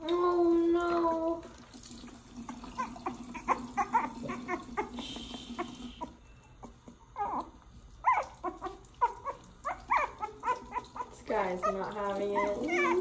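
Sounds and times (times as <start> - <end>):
running tap water: 0.0 - 6.2, 6.8 - 13.0
puppy whimpering and yelping: 2.4 - 13.0.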